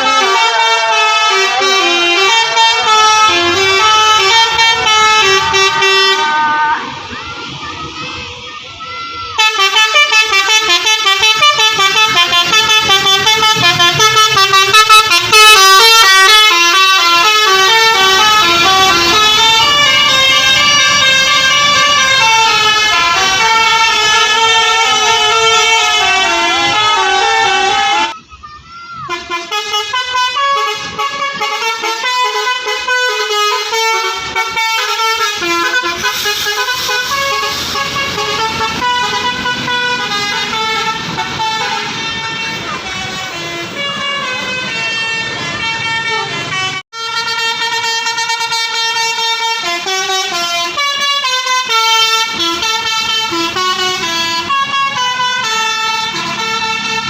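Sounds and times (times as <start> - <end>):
bus horn playing melody: 0.0 - 8.5, 9.4 - 28.2, 29.1 - 57.0.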